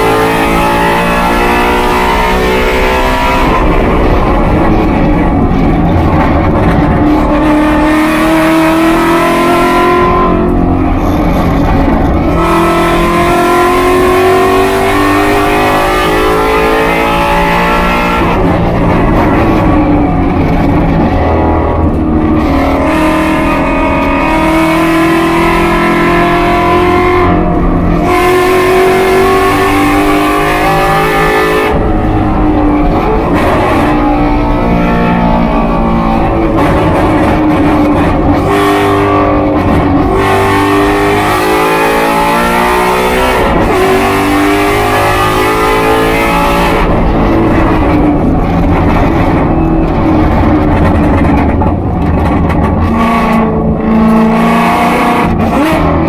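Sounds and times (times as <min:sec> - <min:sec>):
race car engine at high revs: 0:00.0 - 0:56.0
wind and road noise: 0:00.0 - 0:56.0.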